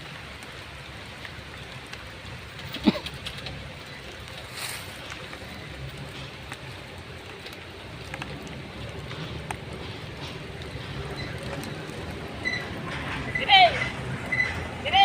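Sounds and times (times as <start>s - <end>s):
diesel truck engine rumbling: 2.6s - 15.0s.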